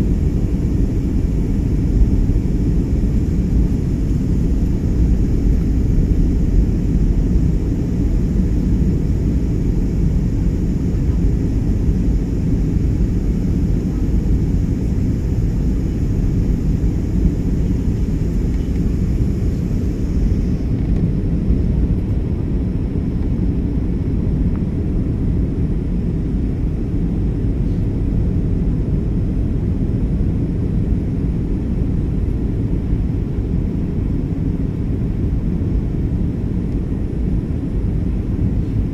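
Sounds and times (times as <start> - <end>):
airliner engines rumbling: 0.0 - 38.9.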